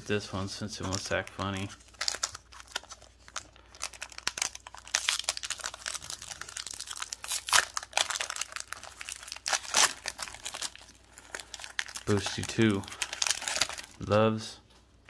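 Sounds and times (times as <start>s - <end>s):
foil wrapper crinkling: 0.0s - 14.2s
foil wrapper ripping: 0.8s - 14.0s.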